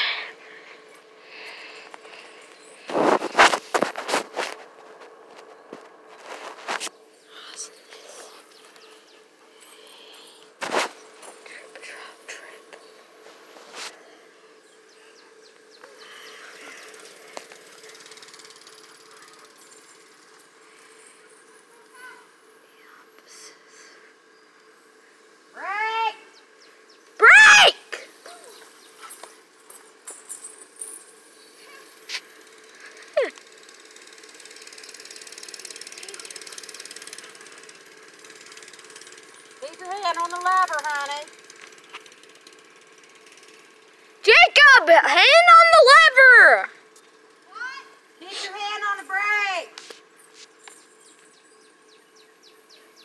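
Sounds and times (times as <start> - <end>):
outdoor ambience: 0.0 - 53.0
distant small engine humming: 6.8 - 53.0.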